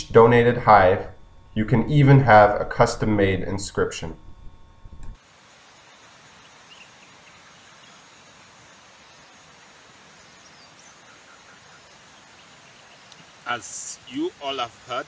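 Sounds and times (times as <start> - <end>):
quiet outdoor ambience: 0.0 - 15.0.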